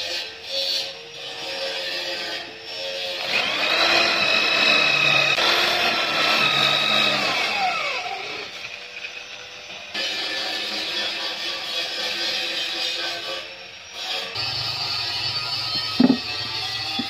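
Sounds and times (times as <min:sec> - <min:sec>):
electric drill boring into wood: 0:00.0 - 0:17.0.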